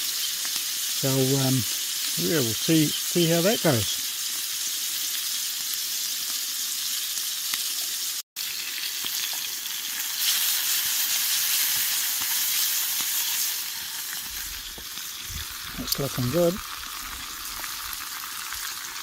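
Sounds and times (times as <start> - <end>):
steak sizzling in a pan: 0.0 - 19.0.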